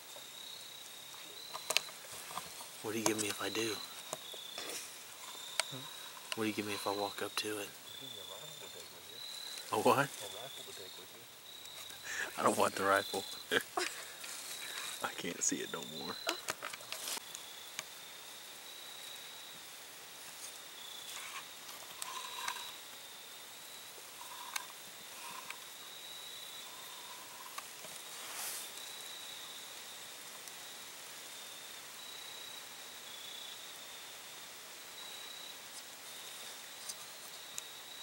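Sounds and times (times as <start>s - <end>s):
faint chirps: 0.0s - 38.0s
high insect trill: 0.0s - 38.0s.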